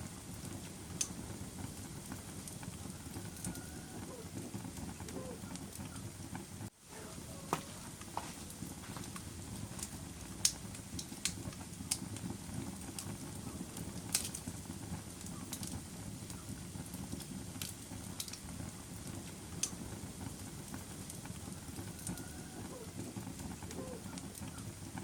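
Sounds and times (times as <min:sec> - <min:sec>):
fire crackles and pops: 0:00.0 - 0:25.0
fire rushing flames: 0:00.0 - 0:25.0.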